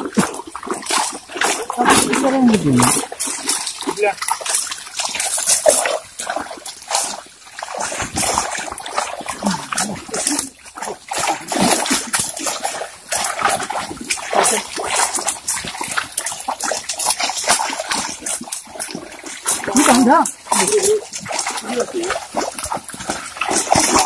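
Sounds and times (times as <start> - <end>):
muddy water splashing: 0.0 - 24.0.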